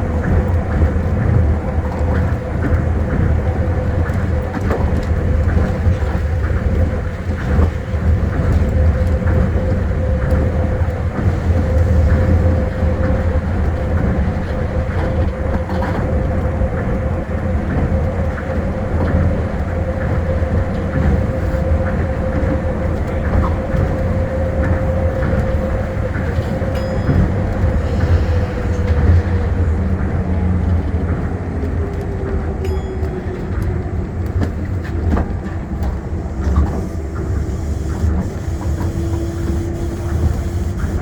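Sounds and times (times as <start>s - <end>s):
monorail train rumbling and whining: 0.0s - 41.0s.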